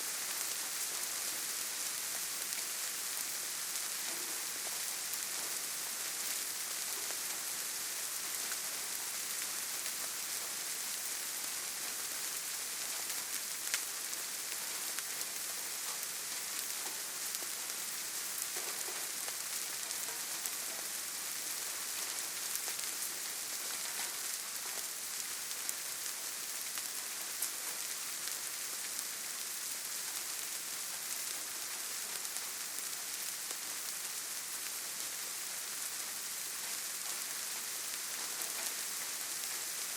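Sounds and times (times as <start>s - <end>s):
gentle rain on leaves: 0.0s - 39.9s.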